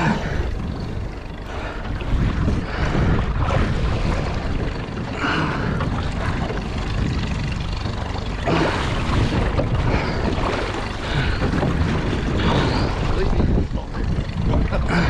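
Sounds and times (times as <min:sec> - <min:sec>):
water rushing around boat: 0:00.0 - 0:15.0
wind buffeting microphone: 0:00.0 - 0:15.0.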